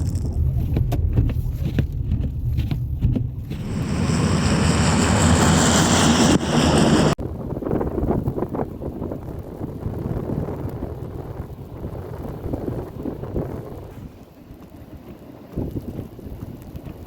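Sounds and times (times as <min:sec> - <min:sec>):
blizzard wind buffeting microphone: 0:00.0 - 0:17.0.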